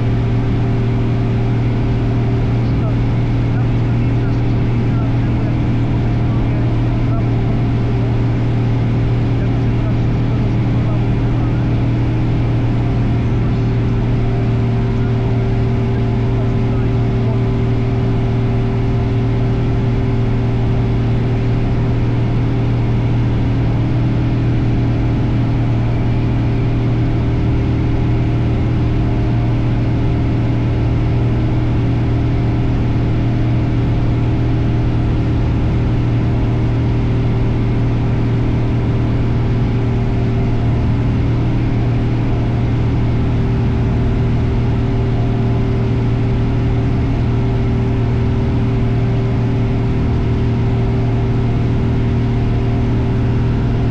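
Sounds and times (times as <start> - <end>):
light aircraft engine drone: 0.0 - 53.9.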